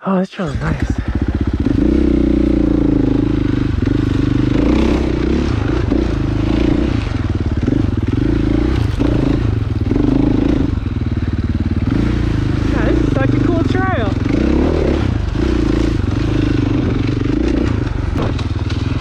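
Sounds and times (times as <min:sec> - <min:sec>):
dirt bike engine revving: 0:00.5 - 0:19.0.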